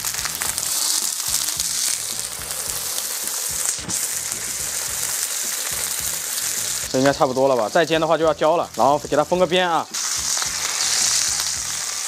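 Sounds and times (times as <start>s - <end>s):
steak sizzling in hot oil: 0.0s - 12.0s.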